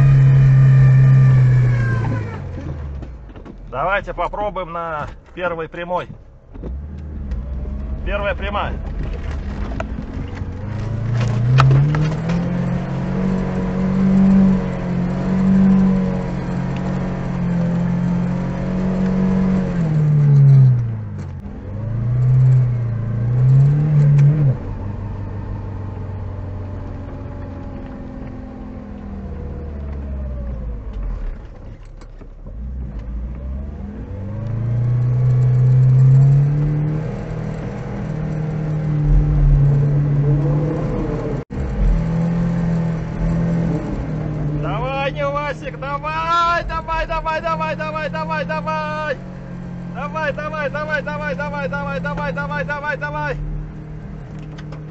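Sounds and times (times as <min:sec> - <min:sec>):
car engine revving: 0:00.0 - 0:05.2, 0:06.4 - 0:31.8, 0:32.4 - 0:54.9.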